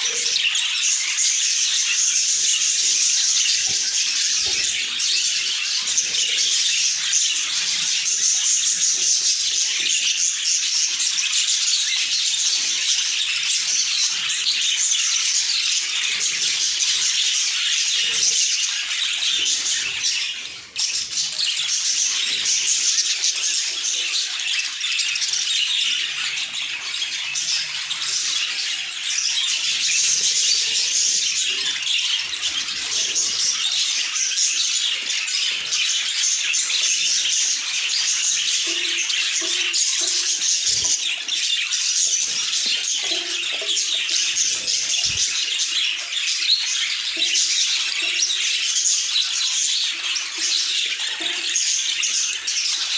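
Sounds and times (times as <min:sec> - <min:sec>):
budgerigars chattering and chirping: 0:00.0 - 0:52.9.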